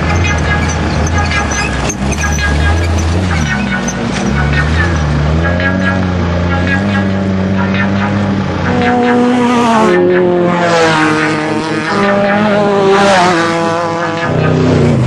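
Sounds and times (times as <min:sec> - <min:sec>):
race vehicle engine shifting gears: 0:00.0 - 0:15.0.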